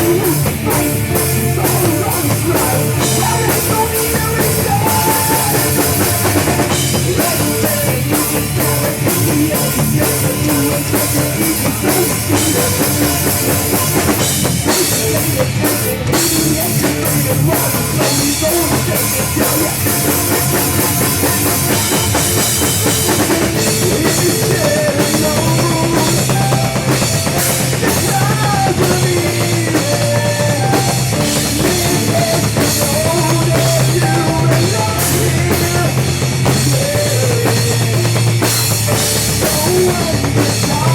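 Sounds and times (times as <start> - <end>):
driving drum kit: 0.0 - 40.9
loud rock music: 0.0 - 40.9.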